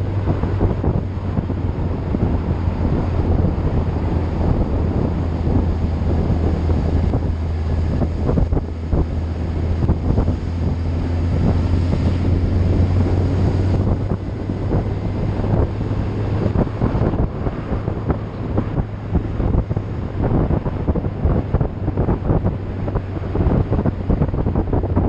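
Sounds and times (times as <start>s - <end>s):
low engine hum: 0.0s - 25.0s
wind buffeting microphone: 0.0s - 25.0s.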